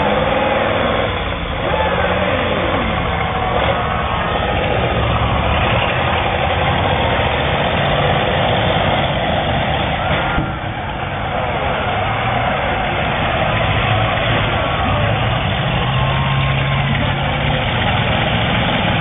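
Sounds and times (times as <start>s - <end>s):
car engines running loudly: 0.0s - 19.0s.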